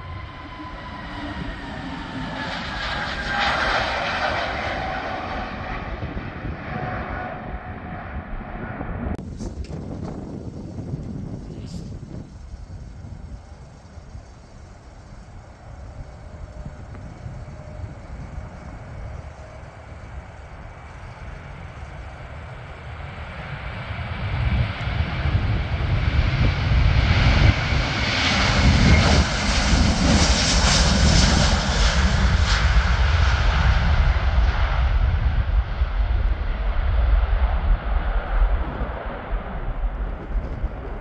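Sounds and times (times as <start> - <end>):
jet engines at takeoff: 0.0 - 41.0.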